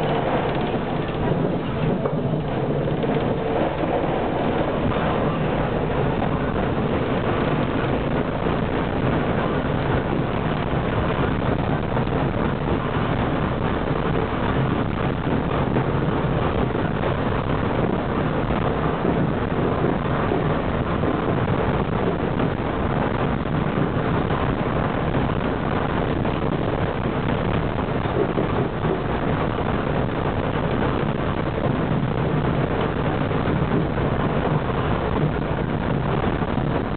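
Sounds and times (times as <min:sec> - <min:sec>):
tram wheels running on rails: 0:00.0 - 0:36.9.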